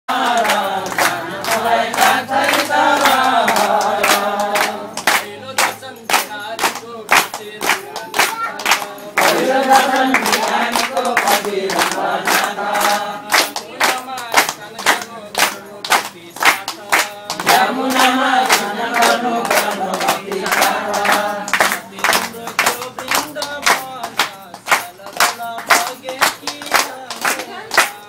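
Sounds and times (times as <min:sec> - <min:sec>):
group singing in chorus: 0:00.1 - 0:28.0
hand-clapping: 0:00.1 - 0:28.0.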